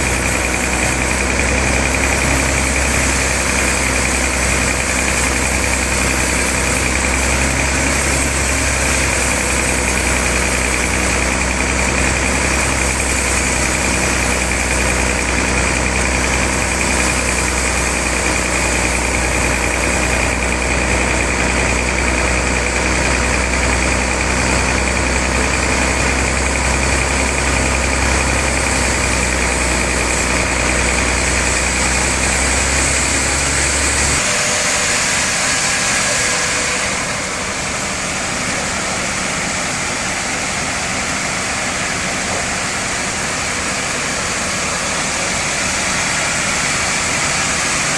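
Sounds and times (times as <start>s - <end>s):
high machine whine: 0.0s - 47.9s
sawmill machinery humming: 0.0s - 47.9s.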